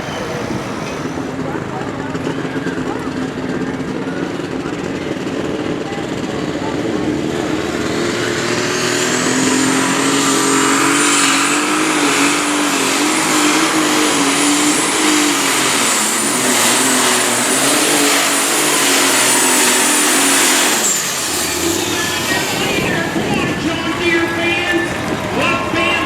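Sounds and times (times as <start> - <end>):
high turbo whine: 0.0 - 26.0
tractor diesel engine running: 0.0 - 26.0.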